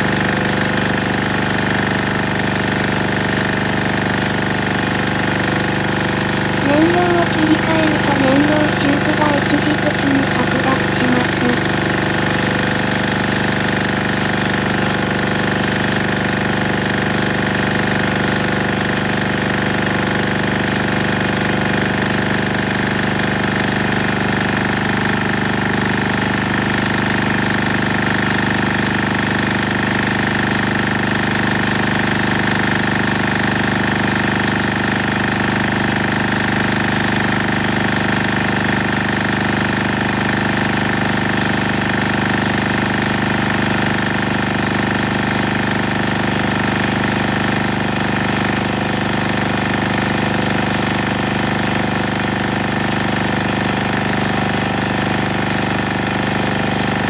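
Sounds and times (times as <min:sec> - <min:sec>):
diesel generator running: 0:00.0 - 0:57.0.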